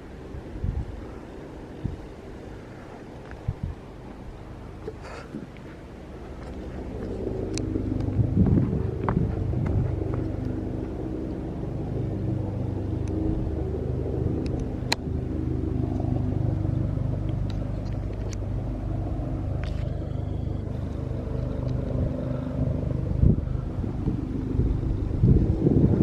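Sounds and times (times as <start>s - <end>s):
helicopter drone: 0.0s - 26.0s.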